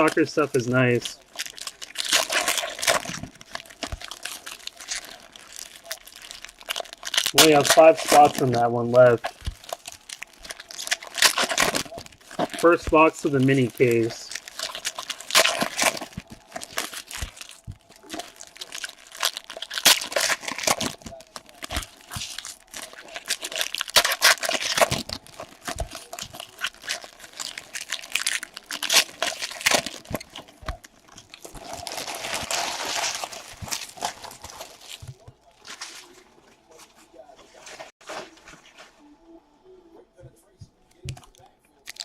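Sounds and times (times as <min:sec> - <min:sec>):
plastic wrapping crinkling and tearing: 0:00.0 - 0:38.9, 0:41.0 - 0:42.0.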